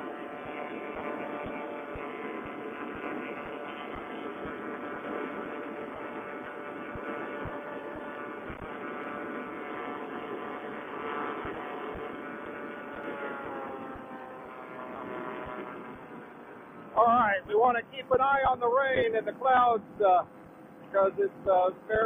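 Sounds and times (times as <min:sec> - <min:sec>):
paramotor engine running: 0:00.0 - 0:22.0.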